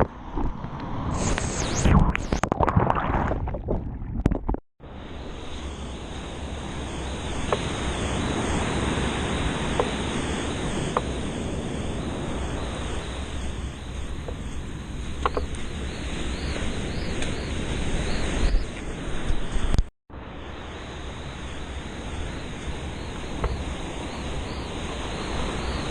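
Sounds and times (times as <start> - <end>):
gusty wind: 0.0 - 25.9
wind rushing hiss: 4.9 - 25.9.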